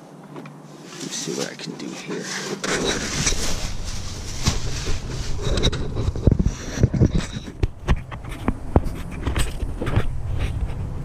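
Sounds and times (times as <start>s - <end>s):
steady low hum: 0.0s - 11.0s
knocks and scrapes in engine bay: 0.8s - 11.0s.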